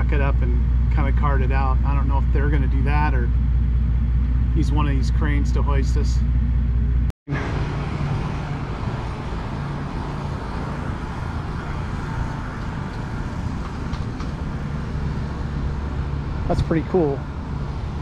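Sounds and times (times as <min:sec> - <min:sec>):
low engine rumble: 0:00.0 - 0:18.0
outdoor background noise: 0:00.0 - 0:18.0.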